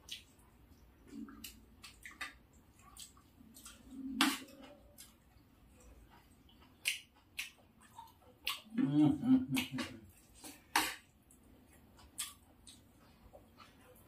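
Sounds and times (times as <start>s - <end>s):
chewing: 0.0s - 8.8s, 9.6s - 14.0s.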